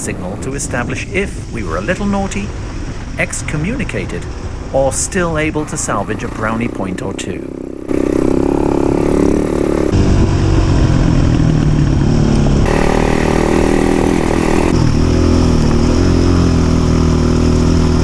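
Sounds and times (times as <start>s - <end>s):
dirt bike engines running: 0.0s - 18.0s.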